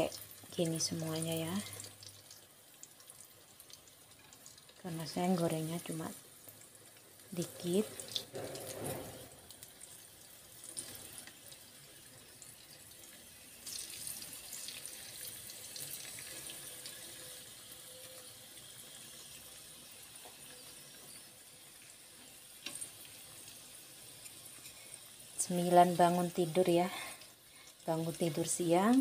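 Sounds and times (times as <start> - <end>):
food sizzling in oil: 0.0 - 29.0.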